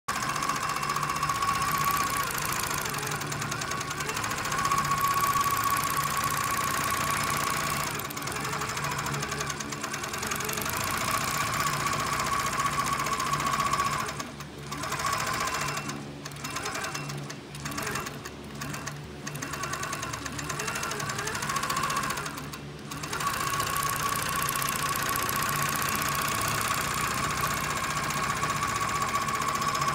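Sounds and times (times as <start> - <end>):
quilting machine stitching whine: 0.1 - 29.9.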